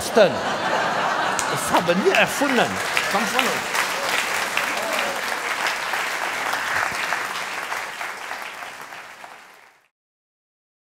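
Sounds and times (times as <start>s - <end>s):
audience applauding: 1.0s - 9.9s.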